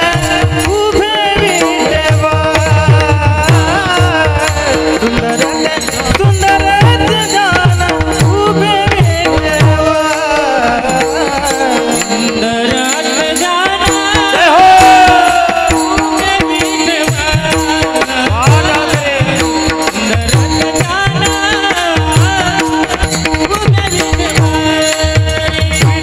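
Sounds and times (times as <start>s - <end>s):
man singing devotional song: 0.0s - 26.0s.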